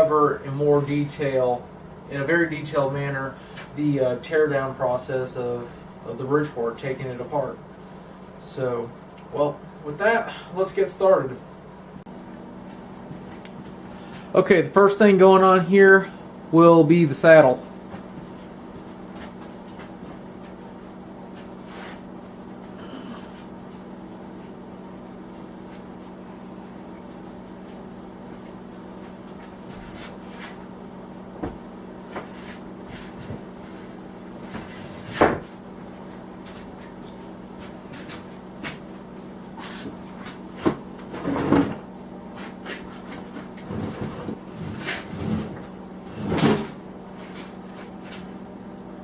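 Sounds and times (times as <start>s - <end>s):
electric heater humming: 0.0s - 49.0s.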